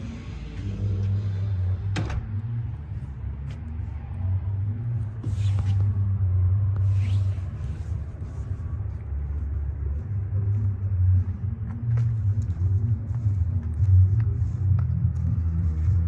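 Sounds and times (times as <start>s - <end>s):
muffled bass-heavy music: 0.0s - 16.0s.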